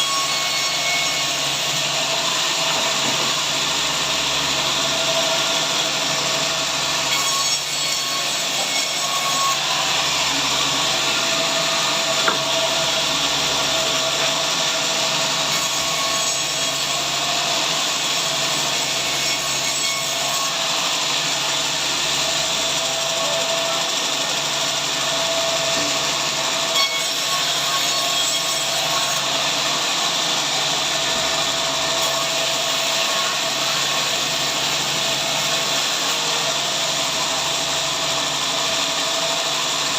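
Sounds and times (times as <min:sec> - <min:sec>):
hiss of saw cutting wood: 0:00.0 - 0:39.9
sawmill saw whining: 0:00.0 - 0:39.9.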